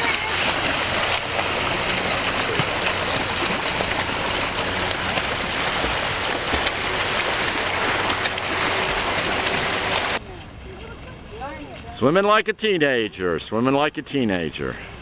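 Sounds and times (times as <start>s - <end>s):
swimmers splashing: 0.0s - 12.4s.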